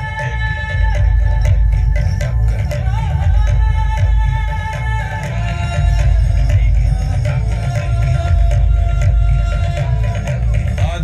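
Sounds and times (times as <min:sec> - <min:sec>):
loud music with deep bass: 0:00.0 - 0:11.0.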